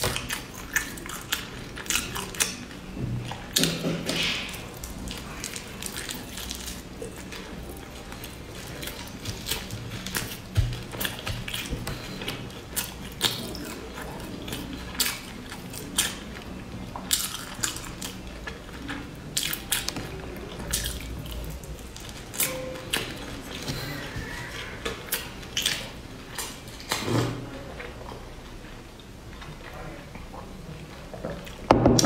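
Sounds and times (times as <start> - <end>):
sticky chewing and lip smacks: 0.0 - 27.0.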